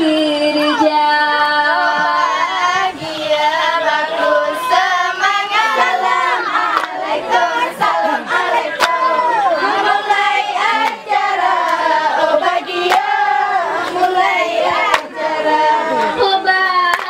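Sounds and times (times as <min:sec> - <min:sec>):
young female voices singing in unison: 0:00.0 - 0:17.0.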